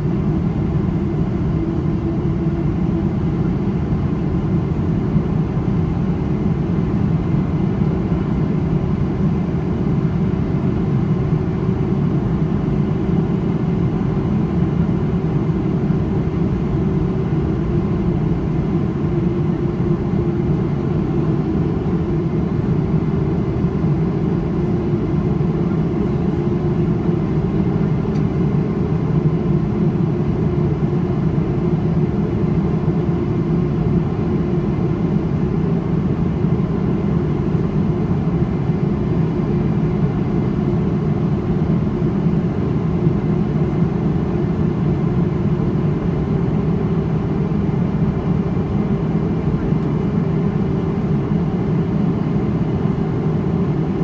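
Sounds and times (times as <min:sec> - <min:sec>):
jet engine roar inside cabin: 0:00.0 - 0:54.0.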